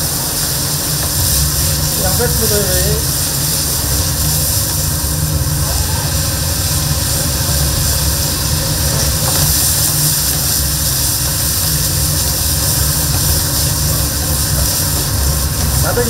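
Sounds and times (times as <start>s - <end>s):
burners and ventilation rumble: 0.0s - 16.0s
food stir-frying sizzle: 0.0s - 16.0s.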